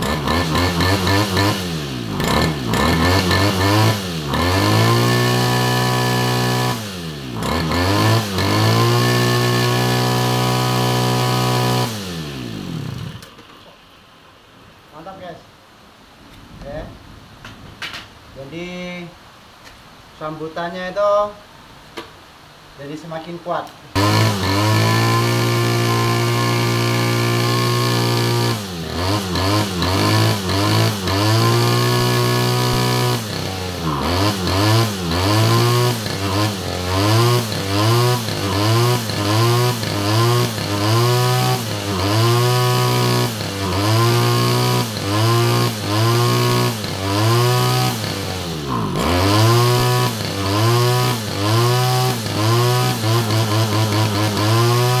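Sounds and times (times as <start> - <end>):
brush cutter engine revving: 0.0 - 13.6, 23.9 - 55.0.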